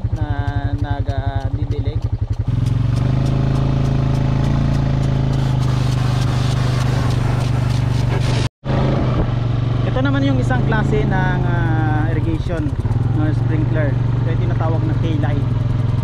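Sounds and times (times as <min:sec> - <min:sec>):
farm vehicle engine running: 0:00.0 - 0:16.0.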